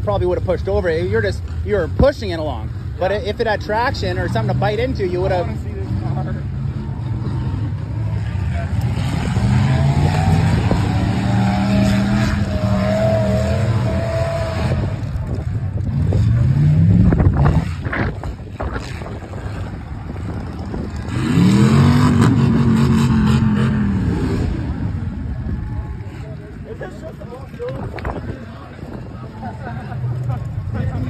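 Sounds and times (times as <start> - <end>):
large vehicle engine revving: 2.6 - 31.0.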